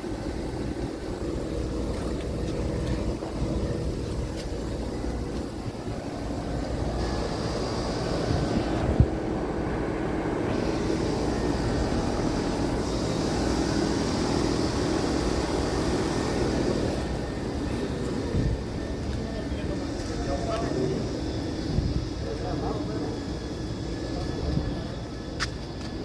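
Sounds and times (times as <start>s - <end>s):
hum of fans and compressors: 0.0s - 26.0s.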